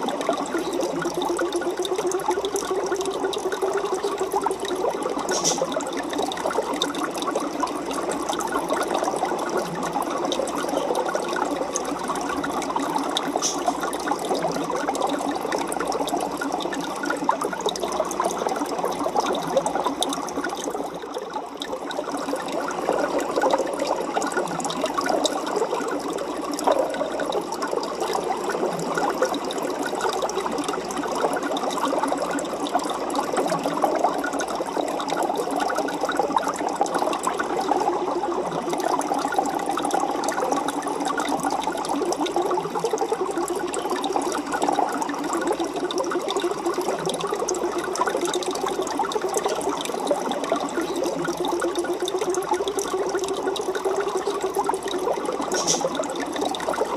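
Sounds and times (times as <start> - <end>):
aquarium water bubbling: 0.0 - 56.9.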